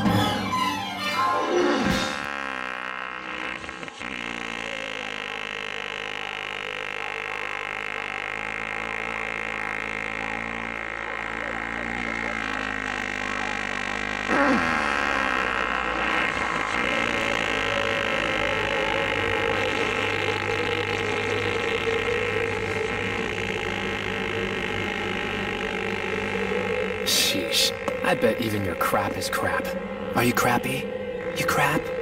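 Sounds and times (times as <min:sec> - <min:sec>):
droning buzz: 0:00.0 - 0:32.0.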